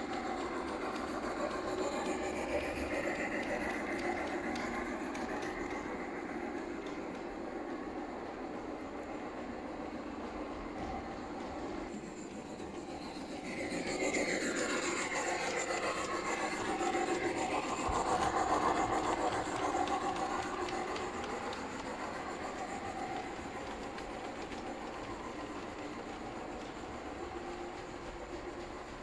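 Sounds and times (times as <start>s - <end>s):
wheels clicking over rail joints: 0.0s - 8.0s, 9.7s - 29.0s
model train motor whirring: 0.0s - 8.1s, 11.9s - 29.0s.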